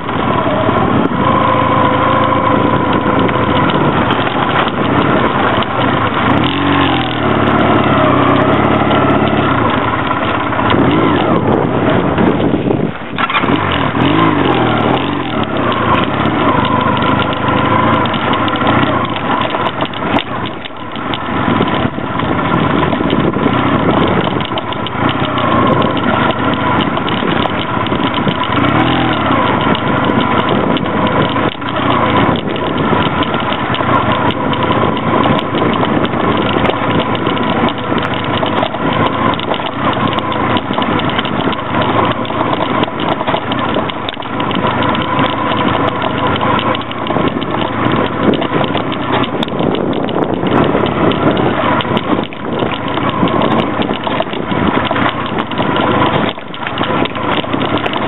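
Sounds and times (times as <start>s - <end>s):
motorcycle engine running: 0.0s - 58.0s
knocks and rattles from jolting: 2.2s - 58.0s.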